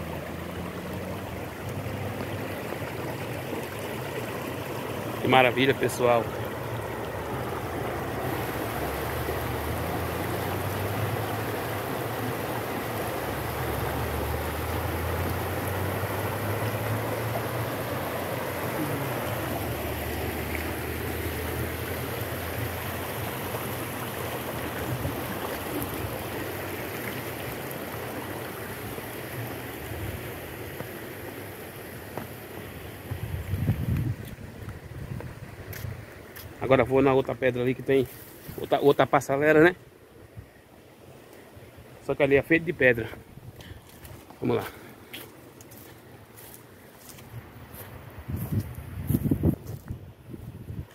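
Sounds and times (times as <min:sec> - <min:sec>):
water rushing over rocks: 0:00.0 - 0:40.1, 0:40.8 - 0:48.2.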